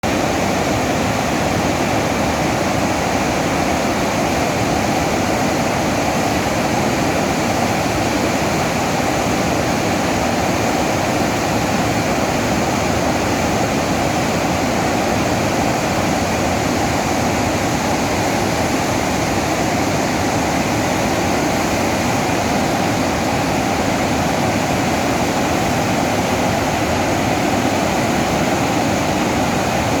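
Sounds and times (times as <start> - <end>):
water rushing through spillway: 0.0 - 30.0.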